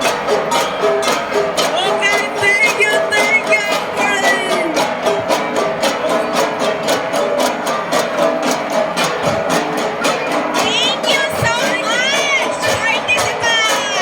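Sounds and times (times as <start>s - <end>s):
gong ensemble playing: 0.0s - 14.0s.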